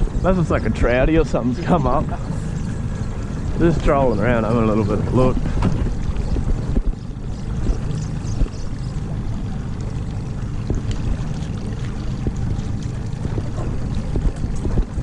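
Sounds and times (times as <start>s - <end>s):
outboard motor running: 0.0s - 15.0s
water around boat hull: 0.0s - 15.0s.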